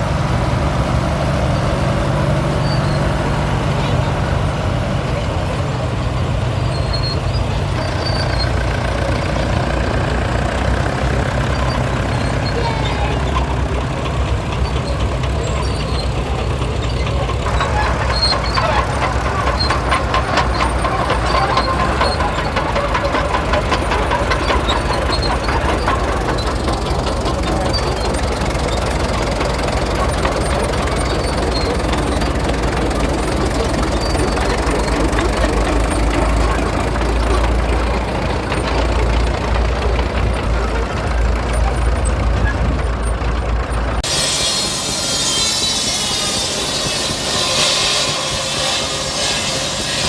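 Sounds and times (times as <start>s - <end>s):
engine running at low speed: 0.0s - 50.0s.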